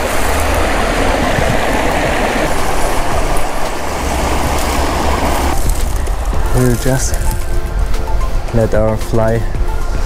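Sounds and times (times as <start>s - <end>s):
creek water rushing: 0.0s - 10.0s
low rumble: 0.0s - 10.0s.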